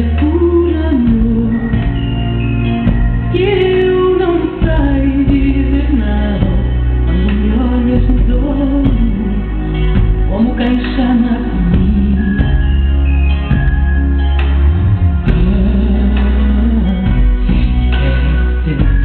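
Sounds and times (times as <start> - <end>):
woman singing: 0.0 - 2.2, 3.3 - 13.0, 15.2 - 19.0
amplified backing music: 0.0 - 19.0.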